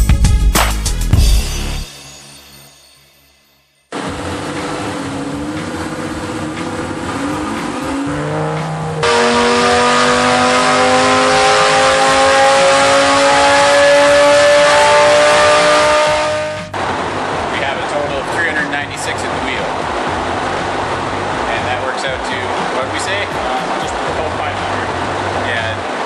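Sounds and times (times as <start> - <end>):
car engine revving at full throttle: 3.9 - 26.0.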